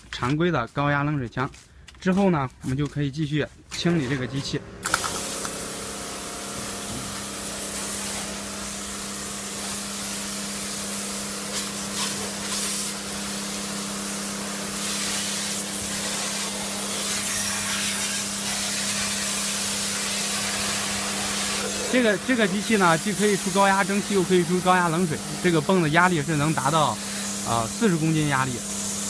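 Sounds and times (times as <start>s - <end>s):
water jet spraying: 3.9s - 29.0s
pump humming: 4.0s - 29.0s.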